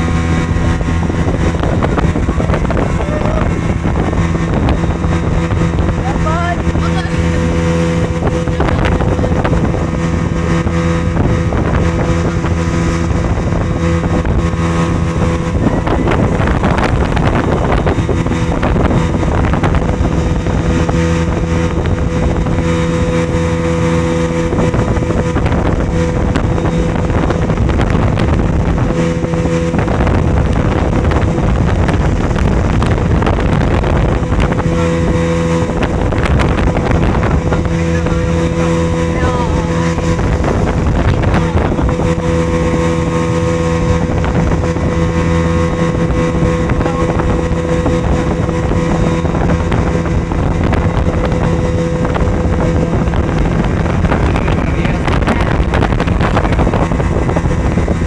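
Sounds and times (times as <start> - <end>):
motorboat engine drone: 0.0 - 58.0
rushing wind: 0.0 - 58.0
water noise: 0.0 - 58.0.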